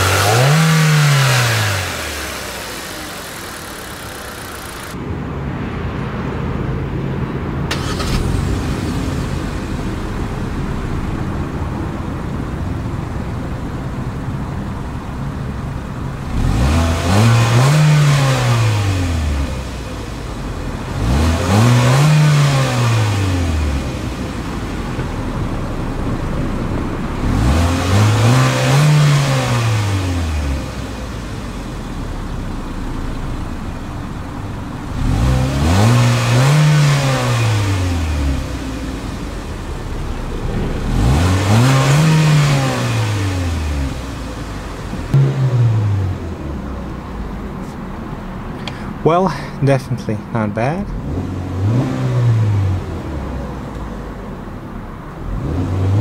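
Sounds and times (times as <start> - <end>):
car engine revving: 0.0 - 5.0, 7.7 - 56.0
car engine idling: 0.0 - 5.1, 7.4 - 51.6.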